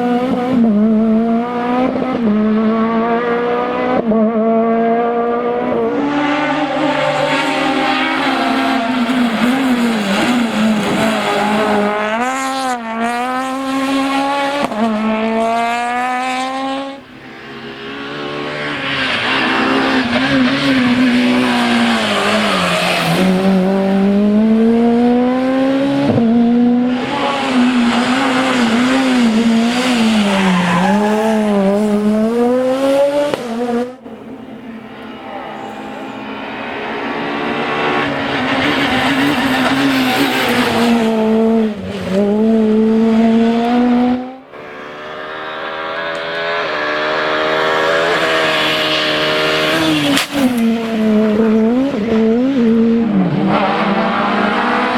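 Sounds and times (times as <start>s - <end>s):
rally car engine revving hard: 0.0s - 54.9s.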